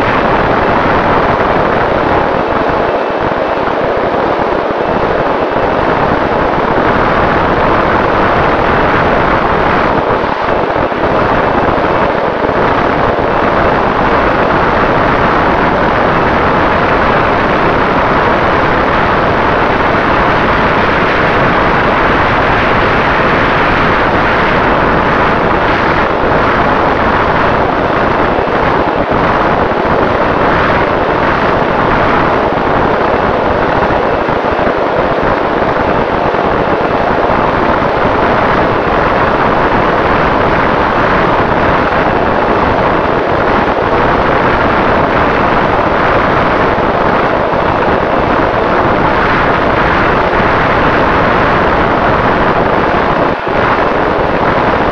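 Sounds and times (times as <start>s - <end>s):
wind noise rushing: 0.0s - 54.9s.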